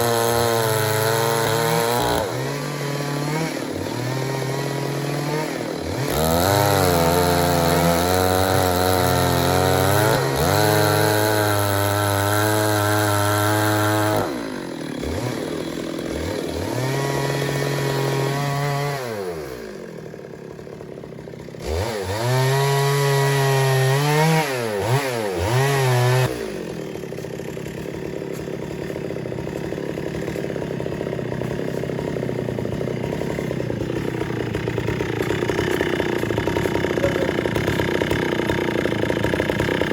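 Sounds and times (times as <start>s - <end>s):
chainsaw idling: 0.0s - 39.9s
chainsaw revving: 0.0s - 39.9s.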